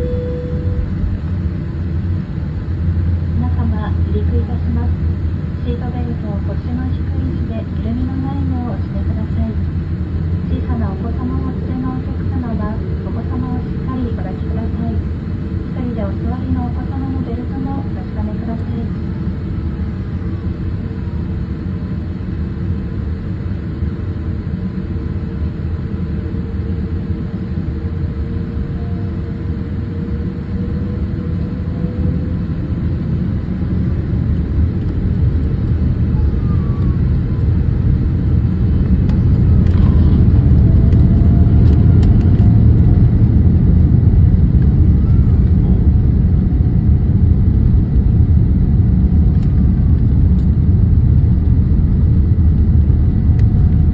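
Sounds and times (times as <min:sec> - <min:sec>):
airliner cabin rumble: 0:00.0 - 0:53.9
faint whine gliding in pitch: 0:00.0 - 0:53.9.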